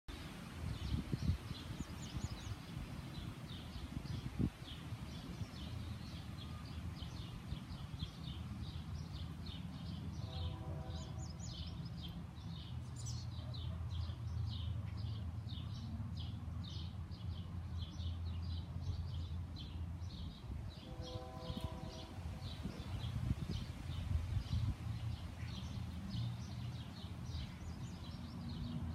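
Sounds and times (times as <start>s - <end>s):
small birds chirping: 0.1s - 28.9s.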